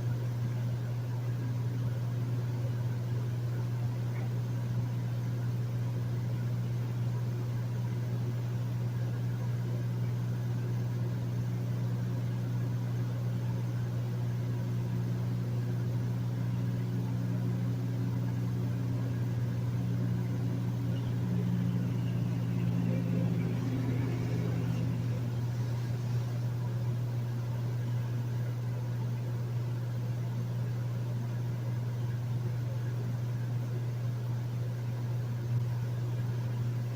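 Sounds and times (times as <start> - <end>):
air conditioner running: 0.0 - 36.9.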